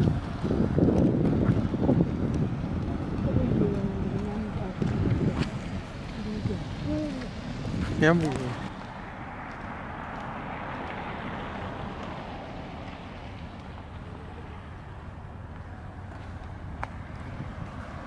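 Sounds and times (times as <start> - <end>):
street traffic passing: 0.0 - 18.0
wind rumble on microphone: 0.0 - 18.0.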